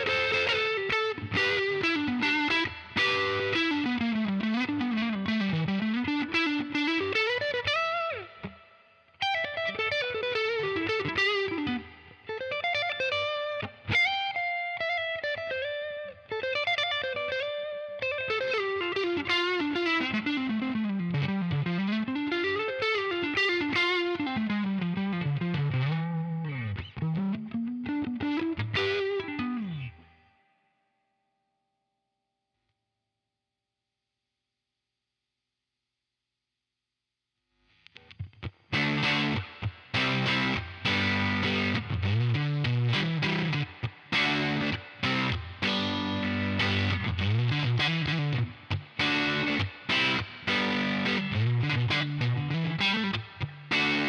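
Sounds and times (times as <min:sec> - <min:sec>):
electric guitar melody: 0:00.0 - 0:30.6, 0:37.9 - 0:54.0.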